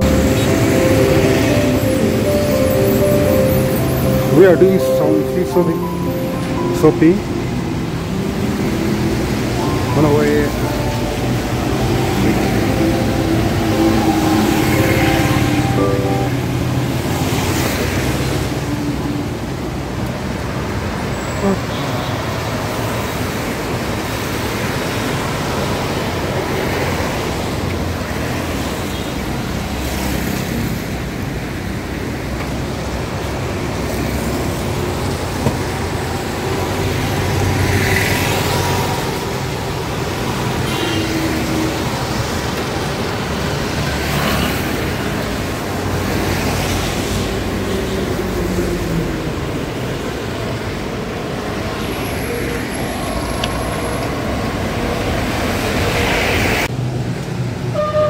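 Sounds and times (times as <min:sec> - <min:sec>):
cars driving past on wet road: 0:00.0 - 0:04.3, 0:04.9 - 0:57.8.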